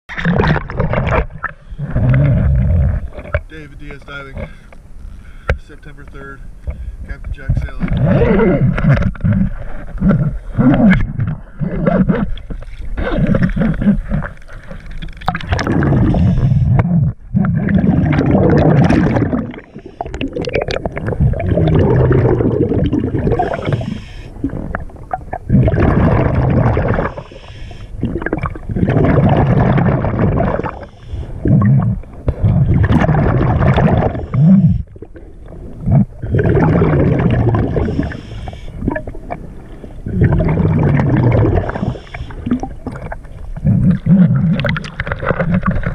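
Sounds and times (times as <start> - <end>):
regulator bubbles gurgling: 0.1 - 45.9.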